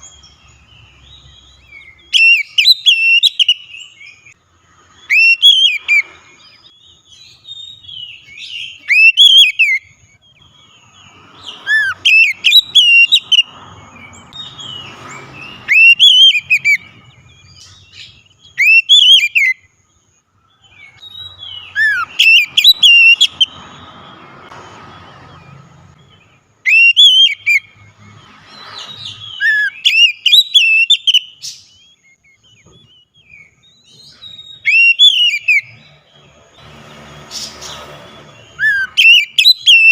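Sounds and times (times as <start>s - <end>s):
bird whistling song: 0.0s - 36.4s, 37.1s - 39.9s.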